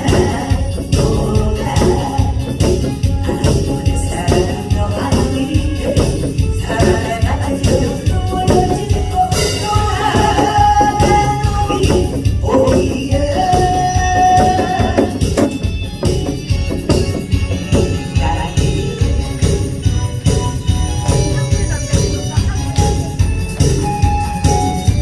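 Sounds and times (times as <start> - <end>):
person singing: 0.0 - 24.9
music with steady beat: 0.0 - 25.0
tambourine jingling: 0.0 - 25.0.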